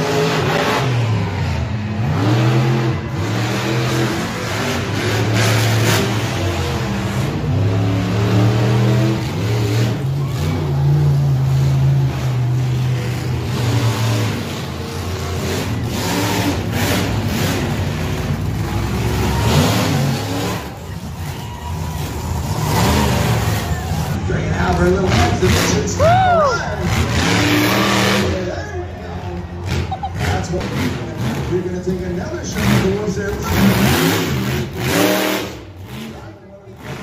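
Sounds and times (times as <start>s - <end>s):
monster truck engines revving: 0.0s - 37.0s.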